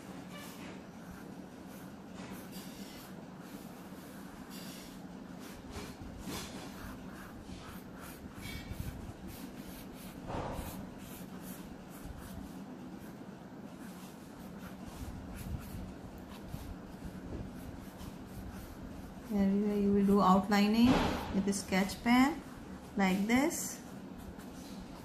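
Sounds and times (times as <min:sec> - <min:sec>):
felt-tip pen scratching on paper: 0:00.3 - 0:20.4.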